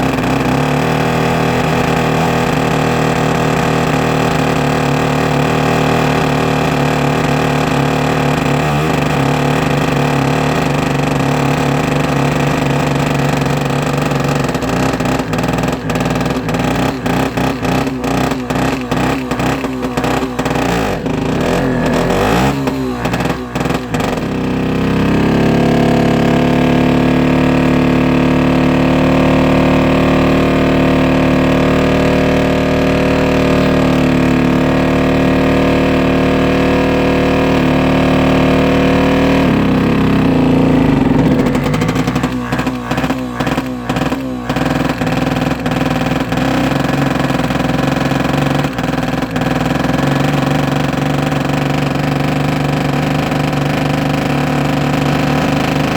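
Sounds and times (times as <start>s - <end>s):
engine knocks: 0.0s - 27.8s, 31.7s - 55.9s
grader engine running: 0.0s - 55.9s.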